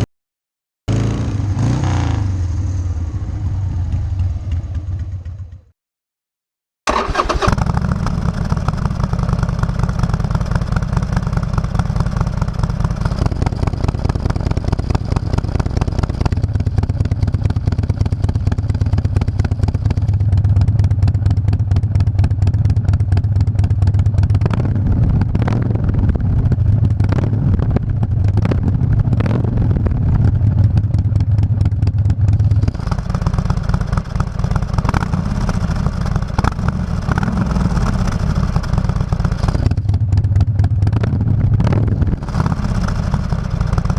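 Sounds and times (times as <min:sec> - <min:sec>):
motorcycle engine running: 0:00.9 - 0:05.7, 0:06.9 - 0:43.9.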